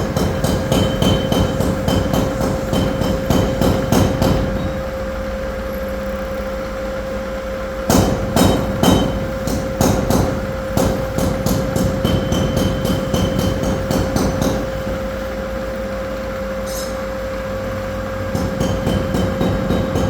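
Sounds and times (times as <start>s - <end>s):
milling machine hum: 0.0s - 20.0s.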